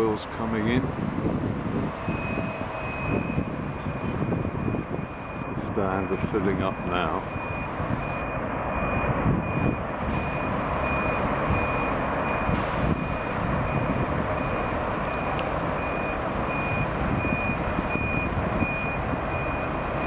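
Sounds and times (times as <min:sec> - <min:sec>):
bus engines rumbling: 0:00.0 - 0:20.0
reversing alarm beeping: 0:02.0 - 0:20.0.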